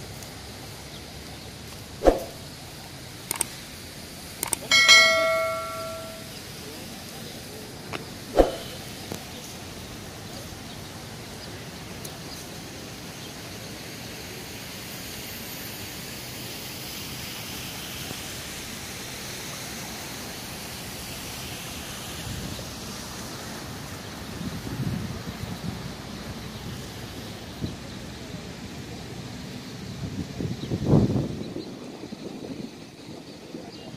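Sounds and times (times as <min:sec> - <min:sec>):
steady outdoor hiss: 0:00.0 - 0:33.9.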